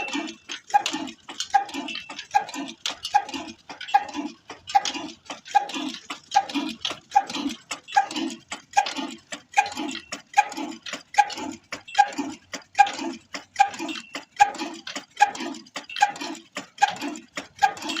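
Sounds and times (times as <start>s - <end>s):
stationary engine chugging: 0.0s - 18.0s.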